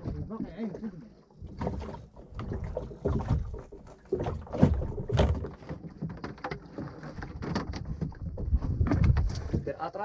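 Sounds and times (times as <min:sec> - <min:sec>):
water slapping against boat hull: 0:00.0 - 0:09.9.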